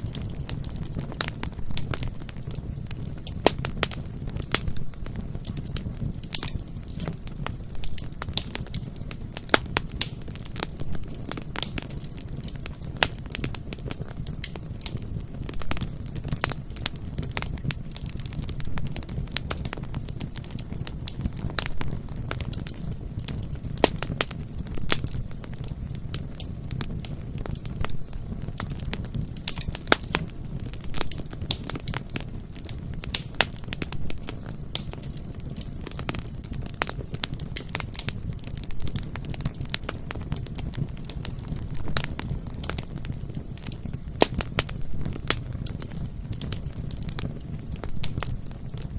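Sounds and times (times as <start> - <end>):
burning wood crackling: 0.0 - 48.9
low rumble of flames: 0.0 - 48.9.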